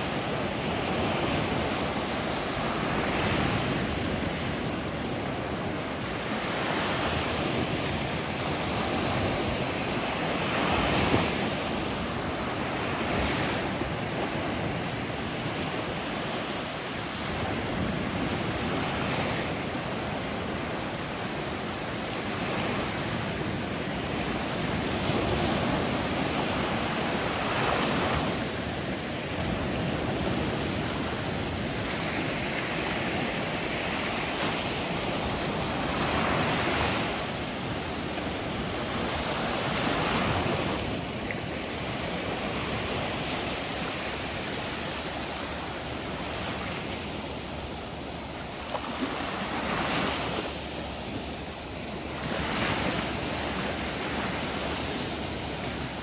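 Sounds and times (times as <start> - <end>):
sea waves washing onto shore: 0.0 - 56.0.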